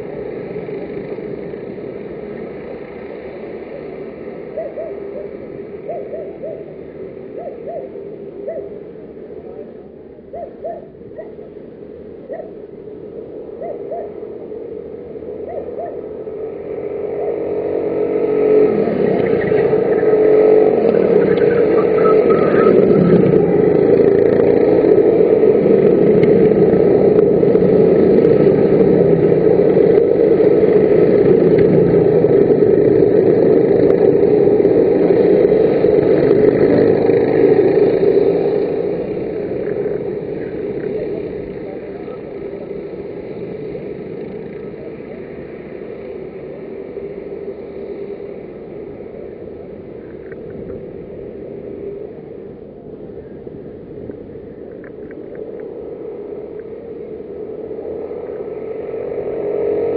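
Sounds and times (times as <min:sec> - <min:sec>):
racing kart engines: 0:00.0 - 0:59.9.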